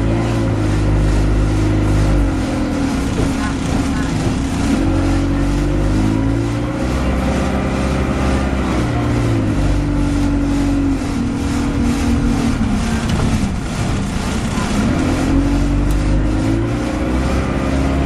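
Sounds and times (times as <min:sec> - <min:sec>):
bus engine: 0:00.0 - 0:18.0.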